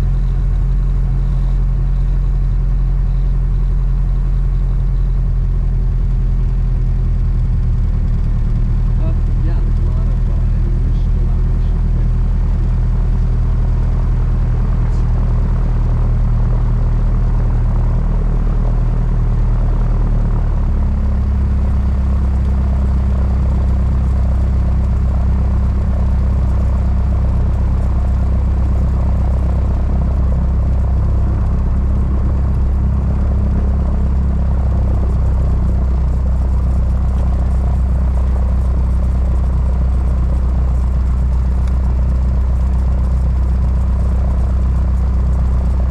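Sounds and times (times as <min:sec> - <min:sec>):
propeller plane engine running: 0:00.0 - 0:45.9.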